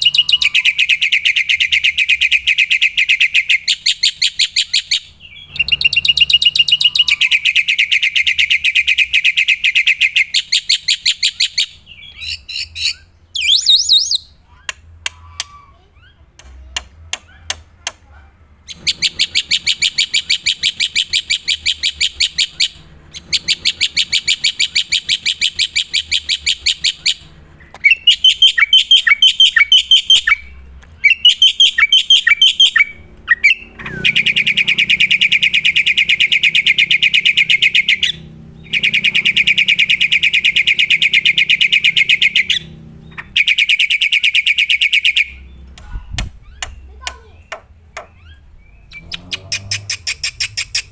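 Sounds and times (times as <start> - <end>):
bird singing rattling notes: 0.0 - 14.6, 18.6 - 50.9.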